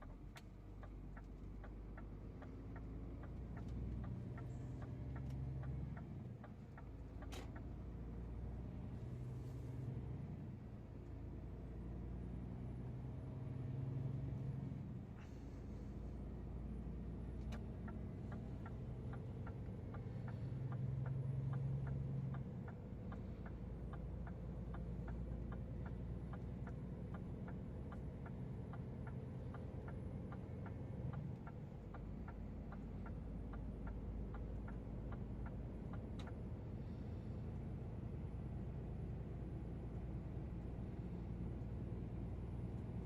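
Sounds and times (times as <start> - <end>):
turn signal ticking: 0.0 - 8.9, 16.2 - 43.0
diesel engine hum: 0.0 - 43.0.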